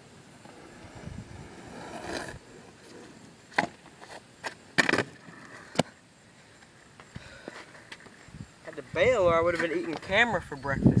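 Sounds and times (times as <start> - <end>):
skateboard wheels rolling on asphalt: 0.0 - 10.4
board and feet slapping pavement: 0.4 - 6.0, 6.6 - 10.2.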